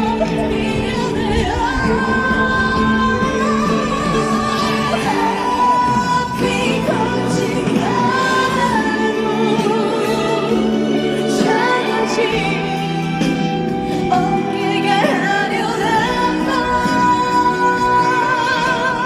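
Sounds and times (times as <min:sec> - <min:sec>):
backing track chords and bass: 0:00.0 - 0:19.0
woman singing long held notes: 0:00.0 - 0:19.0.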